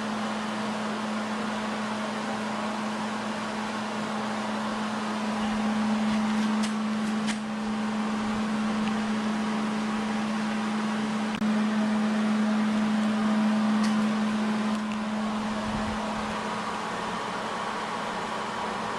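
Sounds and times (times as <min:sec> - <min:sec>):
welding arc buzzing crackle: 0:02.4 - 0:18.9.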